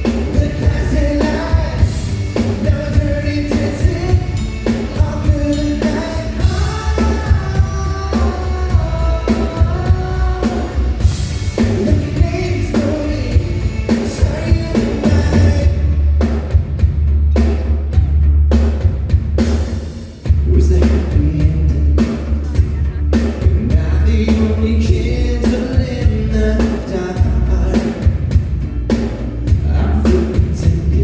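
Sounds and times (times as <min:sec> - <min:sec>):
lead vocal singing: 0:00.0 - 0:16.3, 0:20.3 - 0:28.3, 0:29.5 - 0:31.0
bass guitar: 0:00.0 - 0:31.0
drum kit: 0:00.0 - 0:31.0.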